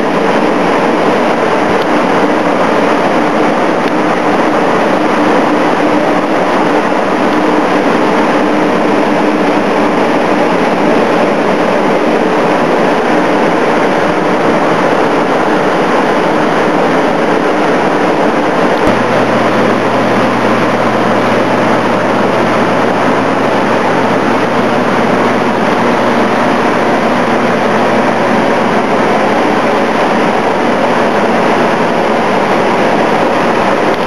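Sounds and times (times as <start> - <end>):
blower fan rushing air: 0.0 - 34.0
steady hum: 0.0 - 34.0.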